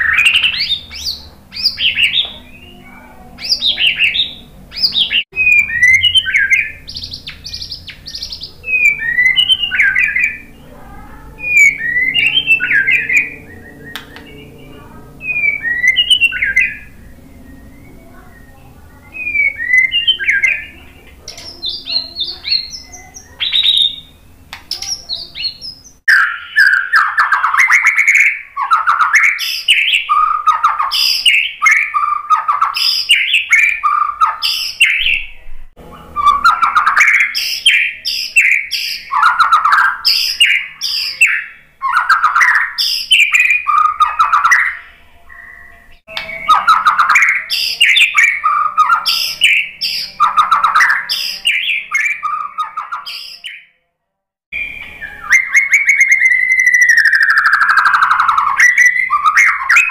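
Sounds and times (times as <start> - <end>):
bird singing whistled phrases: 0.0 - 53.7, 54.6 - 59.9.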